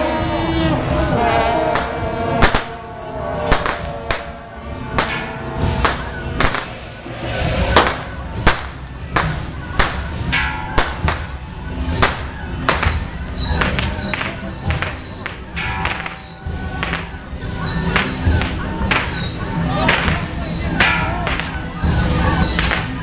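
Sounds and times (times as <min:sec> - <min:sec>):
drum and cymbal strikes: 0:00.0 - 0:23.0.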